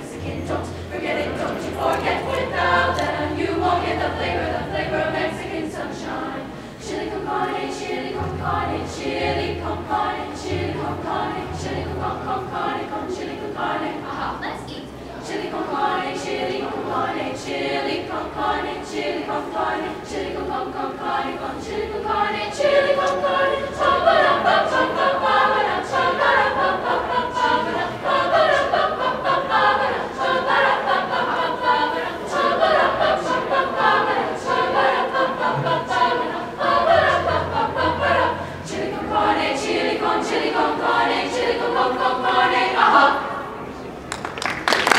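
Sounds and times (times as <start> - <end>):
women's choir singing a cappella: 0.0 - 44.9.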